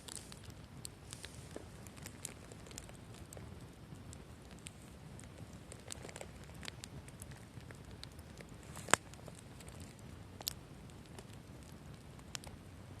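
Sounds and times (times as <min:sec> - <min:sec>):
sharp pops of fire: 0:00.0 - 0:12.7
campfire crackling: 0:00.0 - 0:13.0
low hiss of burning fire: 0:00.0 - 0:13.0.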